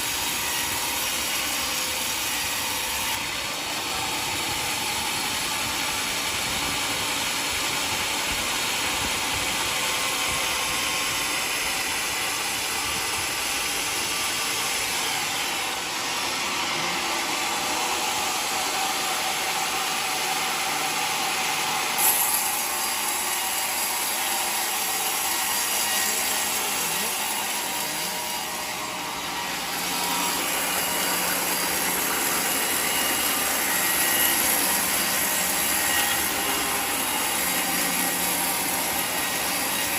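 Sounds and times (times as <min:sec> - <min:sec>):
sawmill sawing log: 0:00.0 - 0:39.9.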